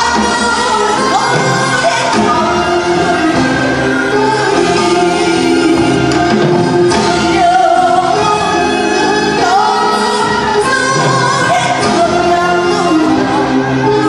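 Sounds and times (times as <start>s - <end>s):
traditional orchestra playing: 0.0s - 14.0s.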